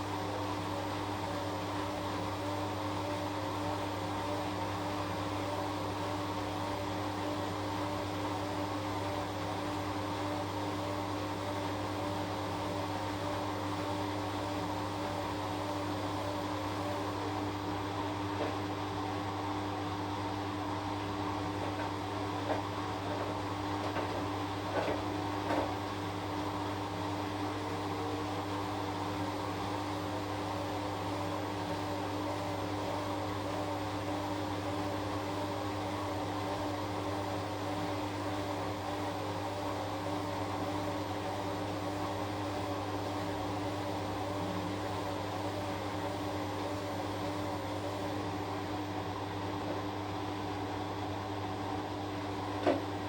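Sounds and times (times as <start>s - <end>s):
washing machine running: 0.0s - 53.0s.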